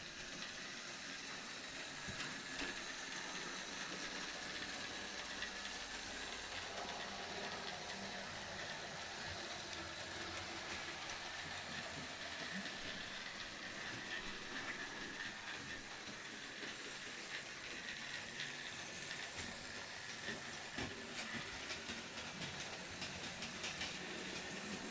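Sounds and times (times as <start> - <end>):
model train motor whirring: 0.0 - 24.9.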